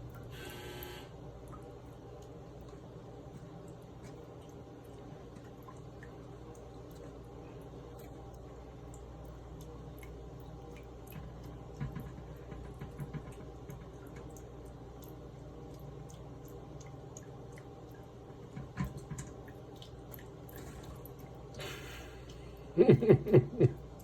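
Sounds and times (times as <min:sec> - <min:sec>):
tap water trickling and dripping: 0:00.0 - 0:24.0
cat pawing at water stream: 0:01.5 - 0:21.6.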